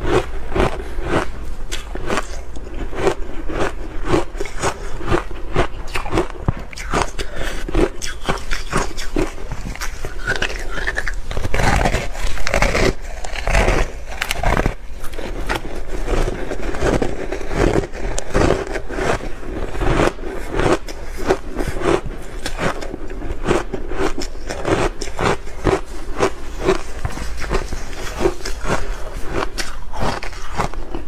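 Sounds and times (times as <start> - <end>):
chewing crunchy ice: 0.0 - 31.0.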